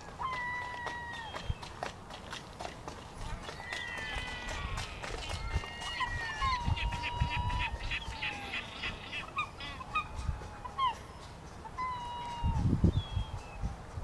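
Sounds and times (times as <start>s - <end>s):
gulls calling: 0.0s - 1.8s, 3.1s - 14.0s.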